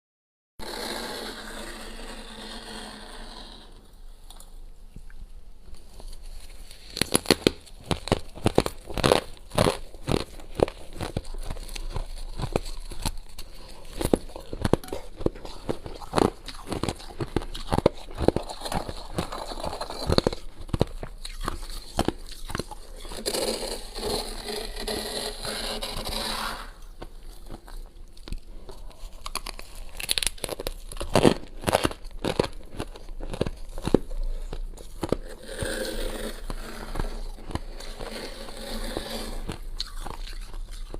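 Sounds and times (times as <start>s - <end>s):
frost and ice crunching: 5.7s - 40.9s.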